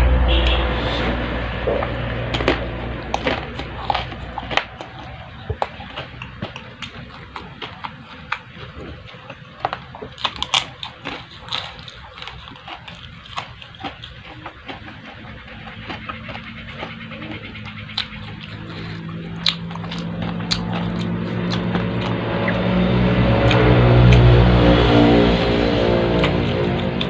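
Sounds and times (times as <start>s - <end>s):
low rumble: 0.0s - 10.4s, 14.5s - 27.0s
person chewing: 0.4s - 27.0s.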